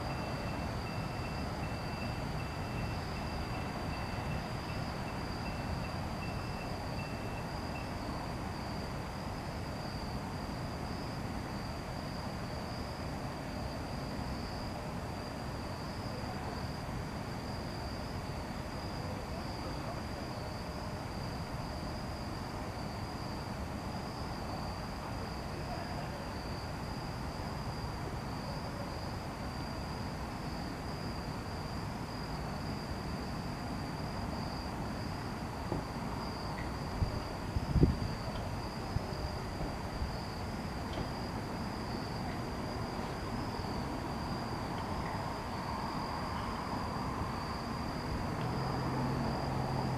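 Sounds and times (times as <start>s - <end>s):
night insects trilling: 0.0s - 49.9s.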